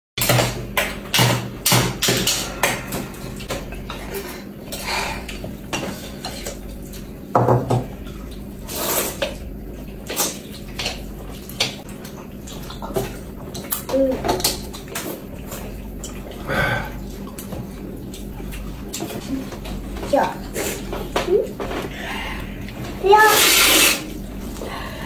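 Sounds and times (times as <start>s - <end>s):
utensils clinking on plates: 0.2s - 9.4s, 10.0s - 24.3s.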